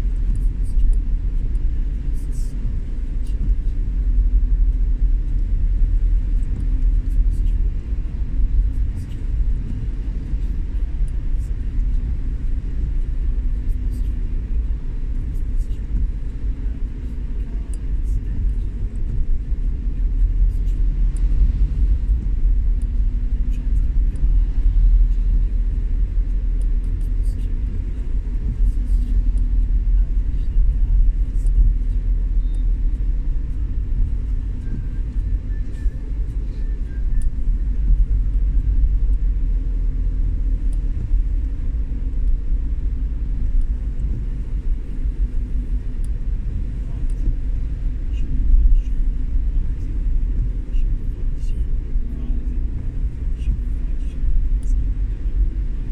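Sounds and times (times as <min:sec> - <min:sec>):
vehicle road and engine rumble: 0:00.0 - 0:55.9.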